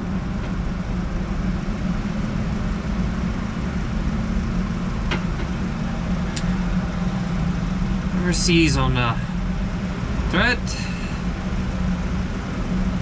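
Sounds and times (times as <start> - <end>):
machinery drone: 0.8 - 13.0.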